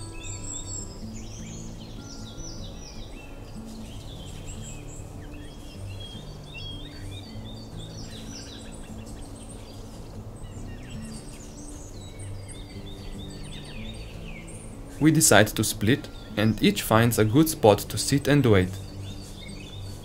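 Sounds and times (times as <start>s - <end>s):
small birds chirping: 0.0s - 20.0s
soft background music: 0.0s - 20.0s.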